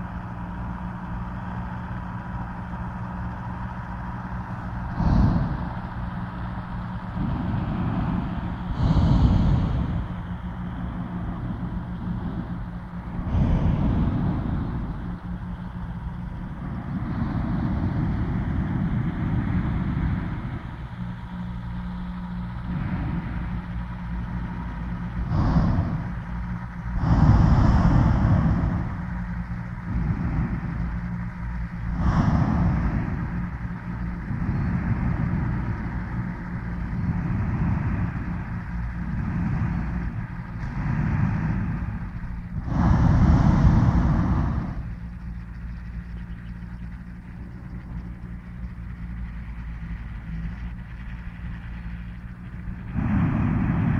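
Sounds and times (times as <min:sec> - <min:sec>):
low engine hum: 0:00.0 - 0:53.9
propane burners firing: 0:00.0 - 0:53.9.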